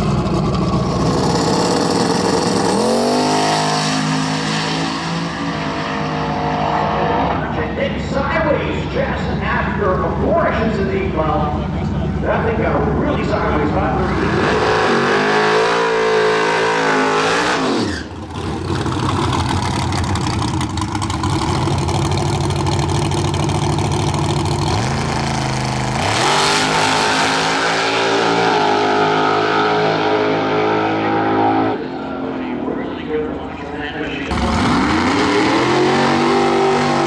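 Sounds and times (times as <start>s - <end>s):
drag racing car engines revving: 0.0s - 37.0s.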